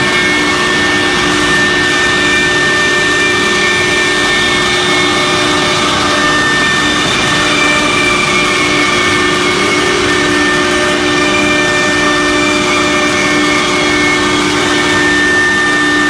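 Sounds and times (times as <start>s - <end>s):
cnc router spindle whining: 0.0s - 16.0s
loud rushing noise: 0.0s - 16.0s.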